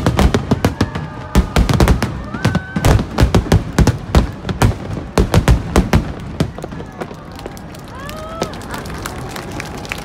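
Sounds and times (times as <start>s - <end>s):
fireworks bursting: 0.0s - 8.7s.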